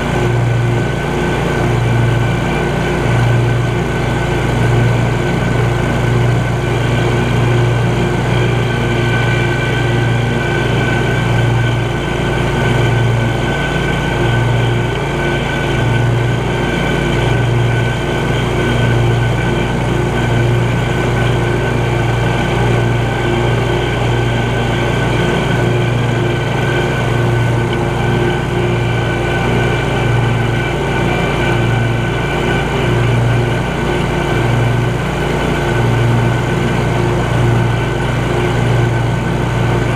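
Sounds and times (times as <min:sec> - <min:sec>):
lawn mower engine drone: 0:00.0 - 0:39.9.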